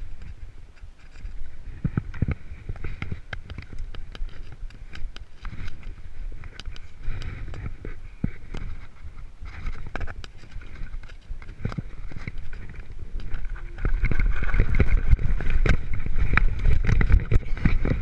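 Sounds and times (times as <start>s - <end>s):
low rumble of wind and trail: 0.0s - 18.0s
bike rattling and knocking: 1.8s - 18.0s.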